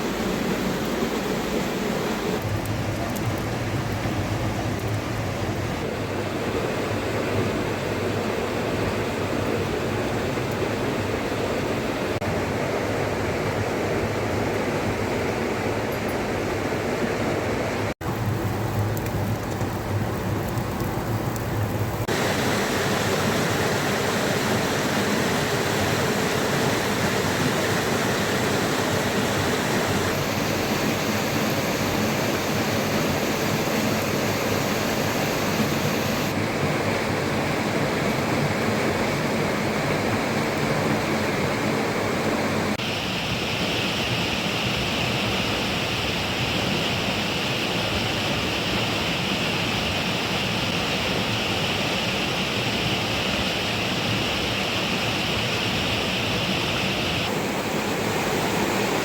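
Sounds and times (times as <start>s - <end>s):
rain: 0.0s - 16.6s, 17.5s - 59.0s
river rushing: 0.0s - 18.9s, 19.6s - 59.0s.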